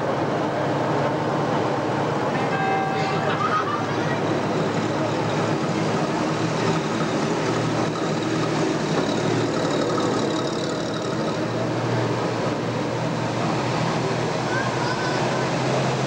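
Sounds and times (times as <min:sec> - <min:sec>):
trucks driving past: 0:00.0 - 0:16.0.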